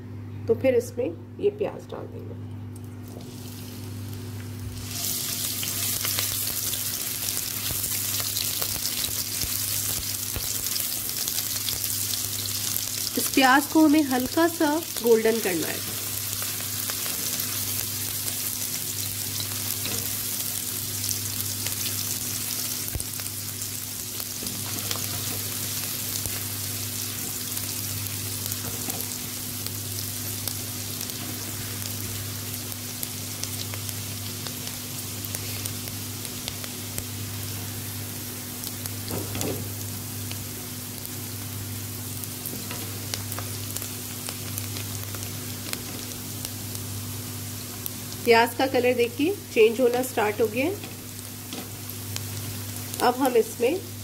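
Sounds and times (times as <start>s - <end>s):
onions sizzling in oil: 3.0s - 54.0s.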